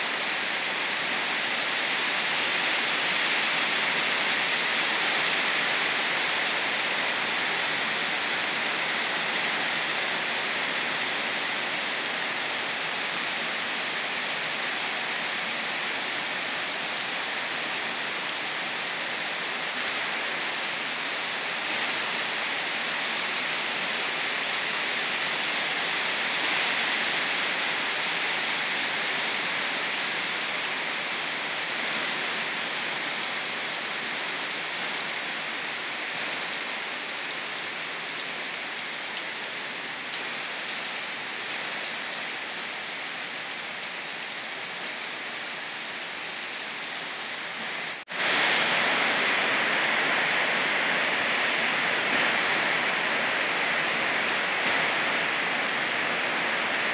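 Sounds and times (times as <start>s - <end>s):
rain pouring on trees: 0.0s - 56.9s.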